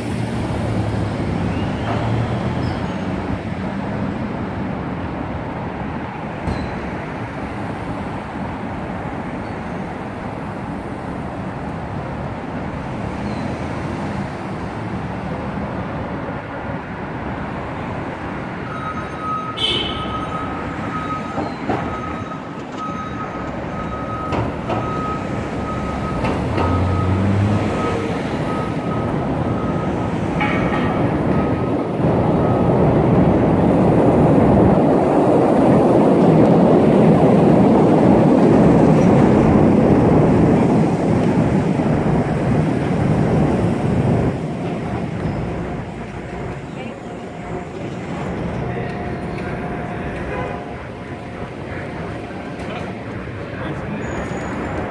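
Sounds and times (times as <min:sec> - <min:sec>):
elevated train passing: 0:00.0 - 0:54.9
street traffic noise: 0:00.0 - 0:54.9.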